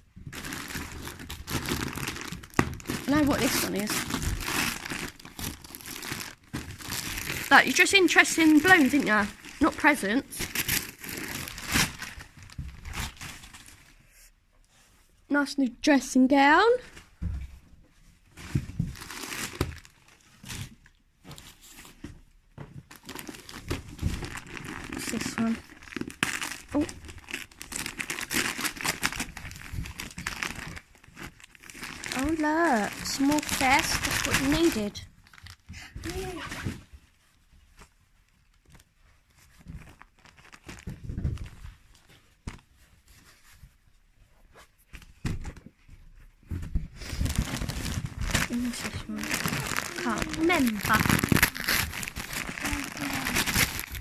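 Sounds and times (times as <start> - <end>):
gift wrapping crinkling and tearing: 0.3 - 14.0, 18.4 - 22.0, 22.9 - 36.8, 37.7 - 43.5, 46.9 - 54.0.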